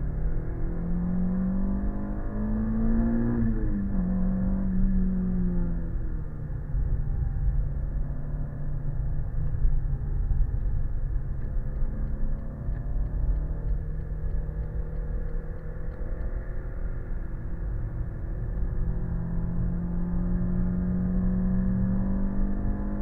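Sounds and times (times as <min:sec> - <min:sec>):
car engine accelerating: 0:00.0 - 0:23.0
road and wind rumble: 0:00.0 - 0:23.0.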